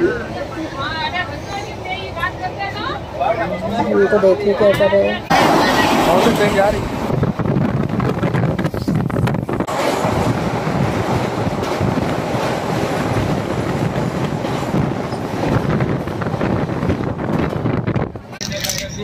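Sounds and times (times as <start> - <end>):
passing train rumble and rattle: 0.0 - 19.0.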